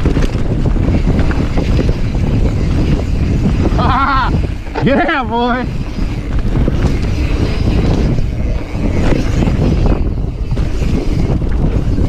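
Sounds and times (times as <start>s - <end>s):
bike rattles and knocks: 0.0s - 12.0s
bike tyres rumbling on dirt: 0.0s - 12.0s
wind buffeting microphone: 0.0s - 12.0s.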